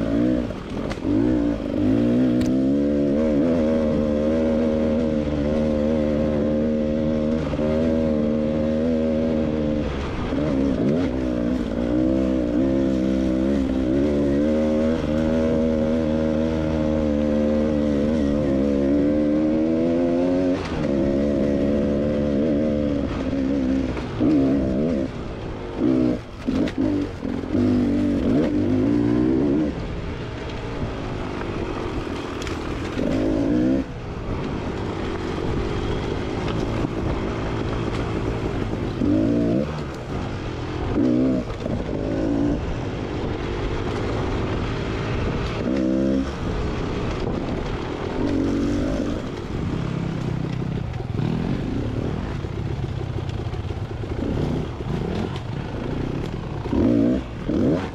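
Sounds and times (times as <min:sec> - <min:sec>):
dirt bike engine revving: 0:00.0 - 0:29.9, 0:31.5 - 0:34.0, 0:34.7 - 0:57.9.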